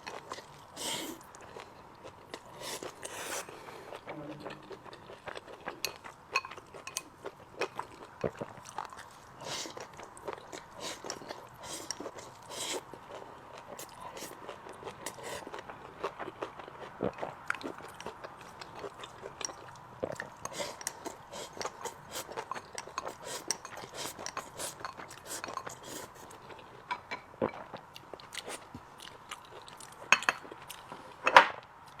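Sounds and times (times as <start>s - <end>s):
chewing and crunching food: 0.0s - 32.0s.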